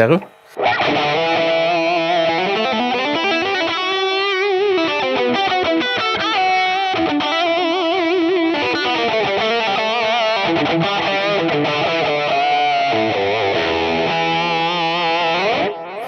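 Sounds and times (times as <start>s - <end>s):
distorted electric guitar lead: 0.2s - 16.0s.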